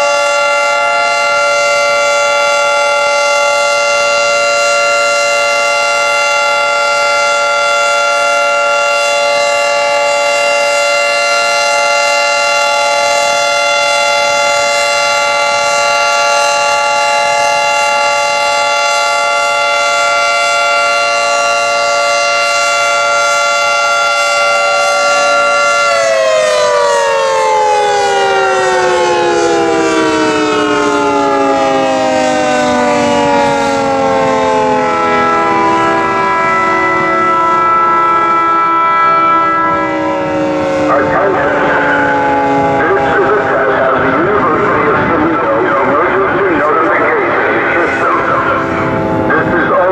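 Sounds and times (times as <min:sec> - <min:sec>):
dual-tone warning siren: 0:00.0 - 0:49.9.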